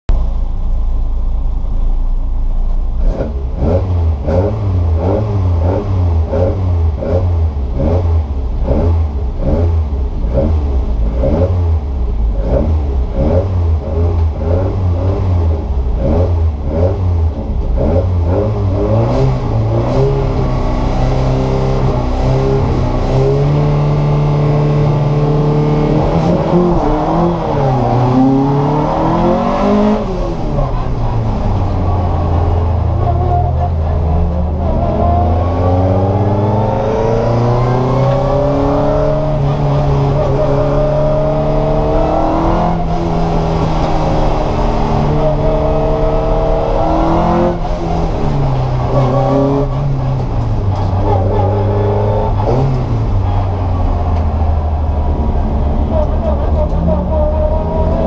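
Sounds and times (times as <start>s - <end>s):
racing car engine revving: 3.0s - 58.0s.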